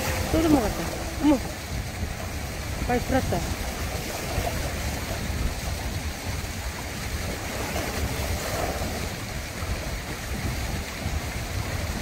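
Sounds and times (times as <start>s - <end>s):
waves washing over rocks: 0.0s - 12.0s
wind buffeting microphone: 0.0s - 12.0s.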